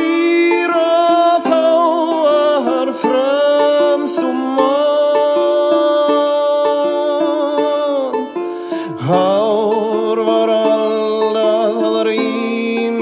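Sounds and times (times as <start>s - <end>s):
person singing: 0.0s - 13.0s
plucked string accompaniment: 0.0s - 13.0s.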